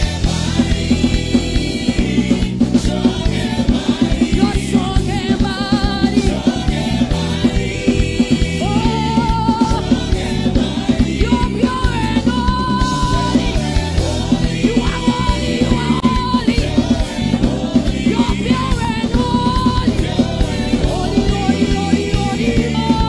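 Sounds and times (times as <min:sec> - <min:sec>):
band with fast drum beat: 0:00.0 - 0:23.0
women singing: 0:00.0 - 0:23.0.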